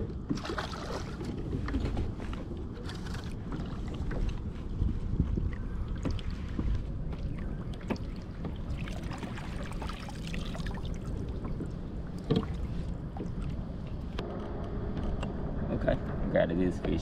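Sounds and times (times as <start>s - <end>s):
wind rumble on microphone: 0.0s - 17.0s
water lapping against kayak hull: 0.1s - 14.2s.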